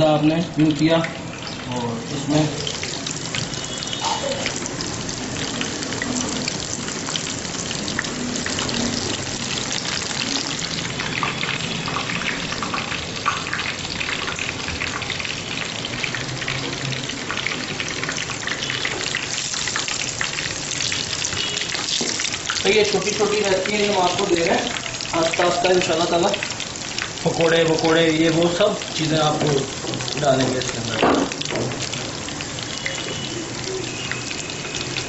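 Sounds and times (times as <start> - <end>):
food deep-frying in hot oil: 0.0 - 35.0.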